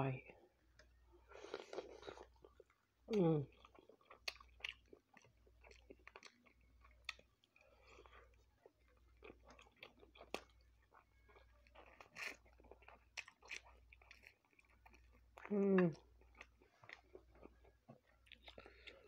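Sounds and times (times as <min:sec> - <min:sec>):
faint wet chewing: 0:00.7 - 0:19.0.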